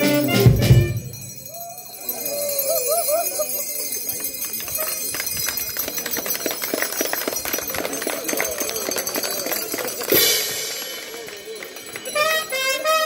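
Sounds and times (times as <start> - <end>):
small bells jingling: 0.0 - 13.0.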